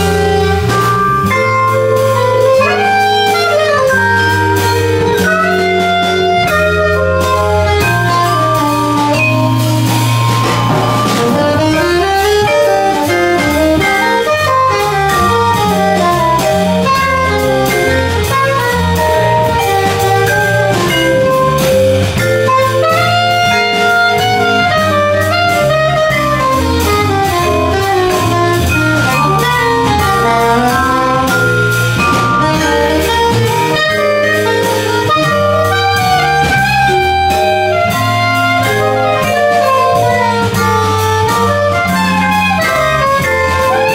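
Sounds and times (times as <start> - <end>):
drum kit with cymbals: 0.0 - 43.9
soprano saxophone melody: 0.0 - 43.9
upright bass: 0.0 - 43.9
vibraphone: 0.0 - 43.9.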